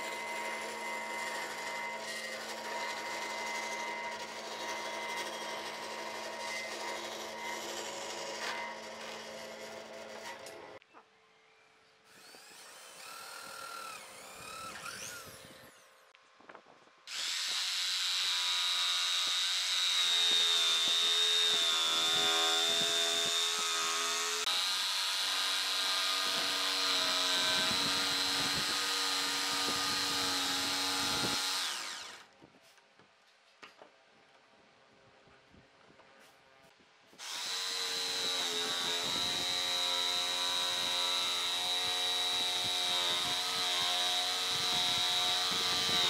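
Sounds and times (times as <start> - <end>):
drill boring into wood: 0.0 - 10.6, 12.1 - 15.9, 17.1 - 32.3, 37.2 - 46.0
electric jigsaw cutting wood: 0.0 - 10.8, 12.1 - 15.9, 17.1 - 32.3, 37.2 - 46.0.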